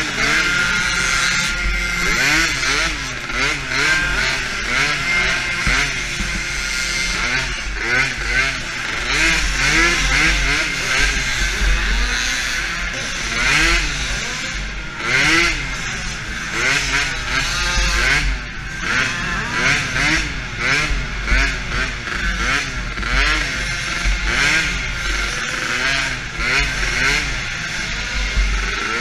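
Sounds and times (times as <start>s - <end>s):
small quad engine revving: 0.0s - 29.0s.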